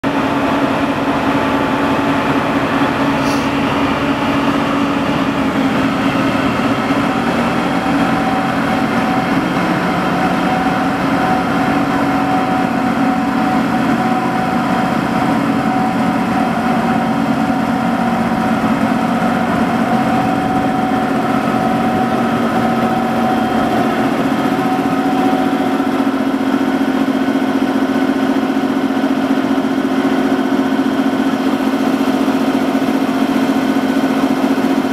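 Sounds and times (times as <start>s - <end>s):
diesel locomotive engine running: 0.0s - 34.9s.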